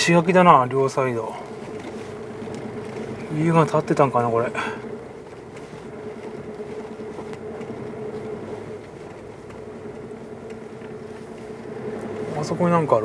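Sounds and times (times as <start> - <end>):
car engine running with whine: 0.0 - 13.0.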